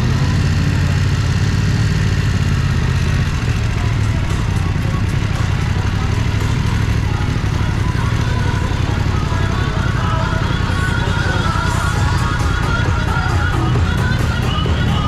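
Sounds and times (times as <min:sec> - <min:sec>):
faint street noise: 0:00.0 - 0:15.0
motorcycle engine running at low revs: 0:00.0 - 0:15.0.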